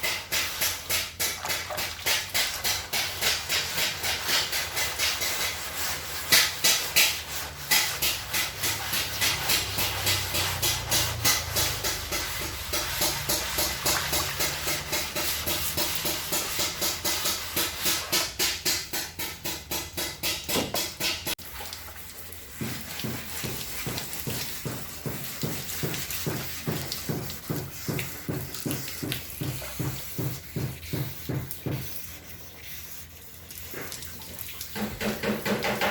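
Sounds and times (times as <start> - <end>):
sandpaper rasping on metal: 0.0 - 21.4, 22.1 - 33.9.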